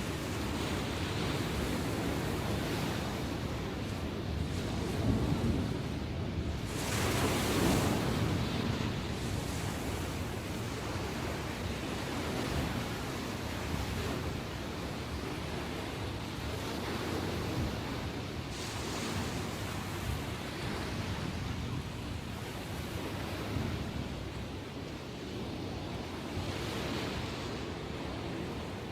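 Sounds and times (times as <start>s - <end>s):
ocean surf washing in: 0.0s - 28.9s
wind rumble on microphone: 0.0s - 28.9s.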